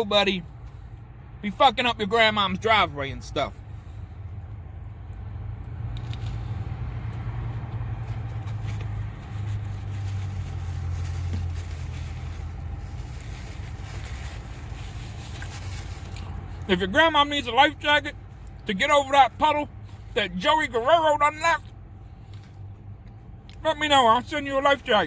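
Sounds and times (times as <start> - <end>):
car engine idling hum: 0.0 - 25.0.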